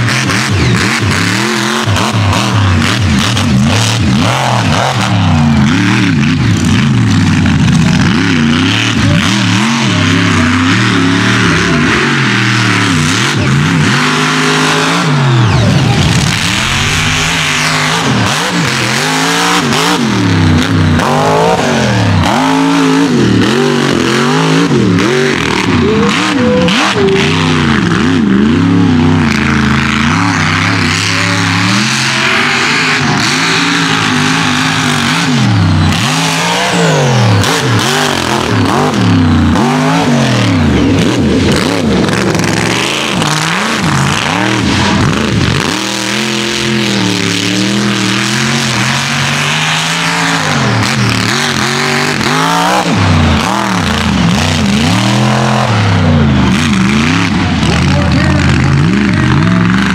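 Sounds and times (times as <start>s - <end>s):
truck engines revving hard: 0.0s - 59.9s.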